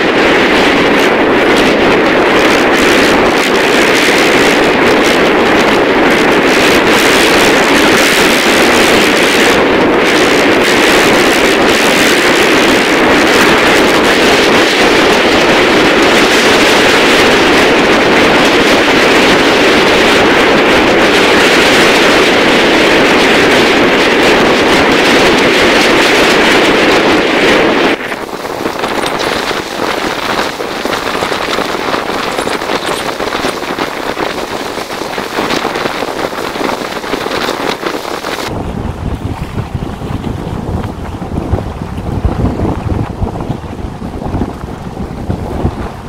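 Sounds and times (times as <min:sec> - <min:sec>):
strong wind on microphone: 0:00.0 - 0:46.0.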